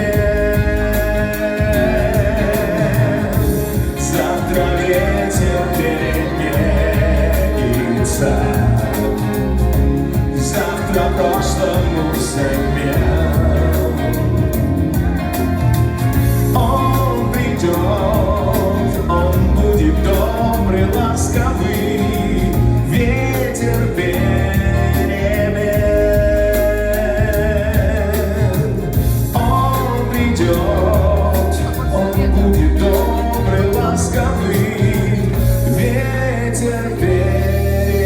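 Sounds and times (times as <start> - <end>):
bass: 0.0 - 38.0
drums: 0.0 - 38.0
person singing: 0.0 - 38.0.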